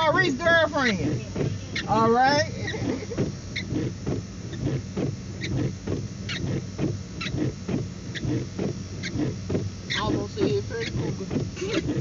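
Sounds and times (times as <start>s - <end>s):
car engine idling: 0.0s - 12.0s
windshield wipers on wet glass: 0.0s - 12.0s
wiper squeak: 0.0s - 12.0s.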